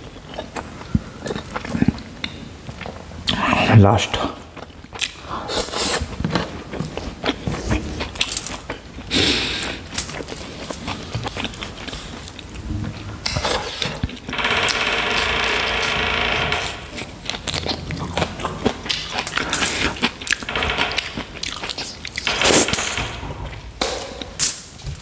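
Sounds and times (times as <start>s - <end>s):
wet mouth eating sounds: 0.0s - 14.3s, 16.9s - 25.0s.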